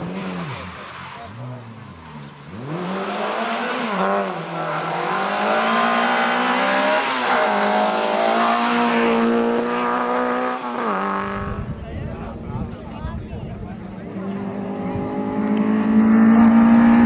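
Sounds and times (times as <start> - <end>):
car engine accelerating hard: 0.0 - 11.9, 13.6 - 17.0.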